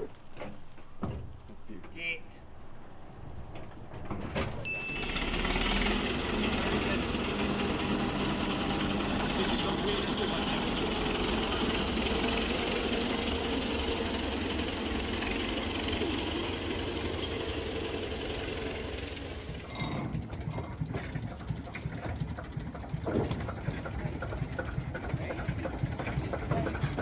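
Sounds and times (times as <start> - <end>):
locomotive engine running: 2.5 - 27.0.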